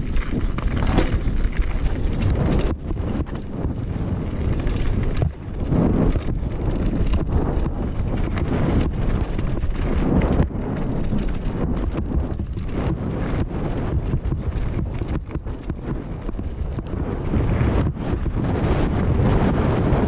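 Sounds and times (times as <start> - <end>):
tyres crunching over stones: 0.0 - 18.4
bike chain and frame clatter: 0.0 - 19.5
wind rumble on microphone: 0.0 - 20.0.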